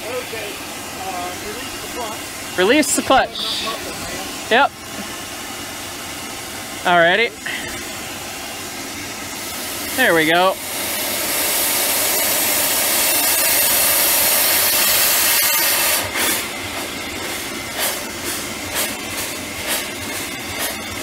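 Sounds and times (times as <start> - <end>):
steam engine exhaust chuffs: 0.0 - 21.0
steam hissing: 0.0 - 21.0.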